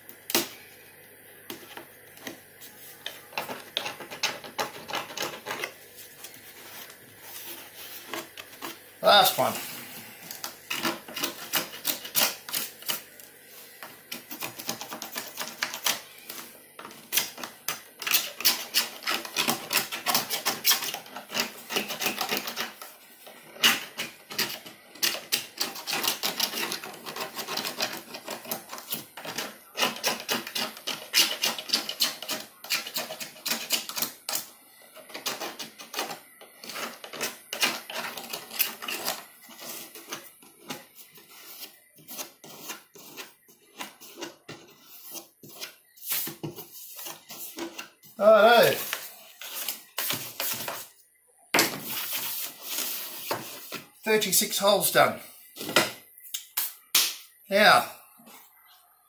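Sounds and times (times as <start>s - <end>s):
hand tool scraping plastic pipe: 1.5s - 9.7s, 10.3s - 13.0s, 14.1s - 50.9s.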